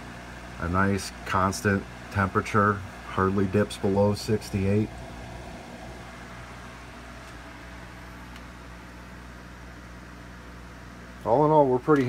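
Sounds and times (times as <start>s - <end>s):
cooling fans humming: 0.0s - 12.0s.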